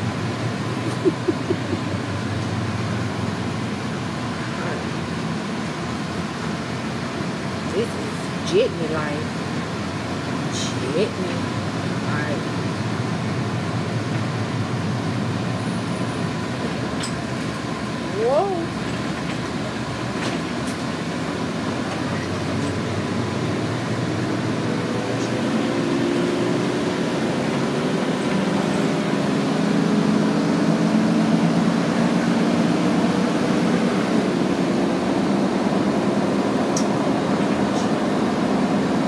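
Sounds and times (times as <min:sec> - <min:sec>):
engine and road rumble: 0:00.0 - 0:39.0
faint engine hum: 0:00.0 - 0:39.0.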